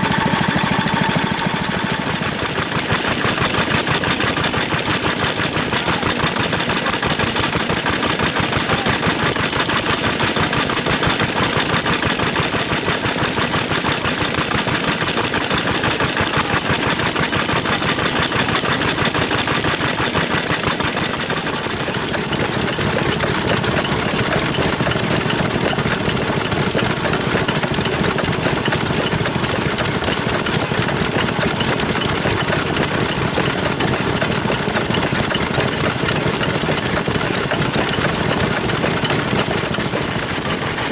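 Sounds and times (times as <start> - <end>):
stationary engines running: 0.0 - 40.9.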